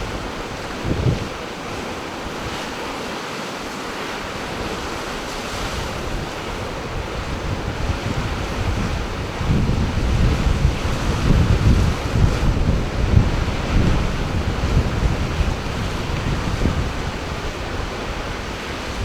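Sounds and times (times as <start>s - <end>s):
wind buffeting microphone: 0.0s - 2.8s, 4.2s - 19.0s
ocean surf washing: 0.0s - 19.0s.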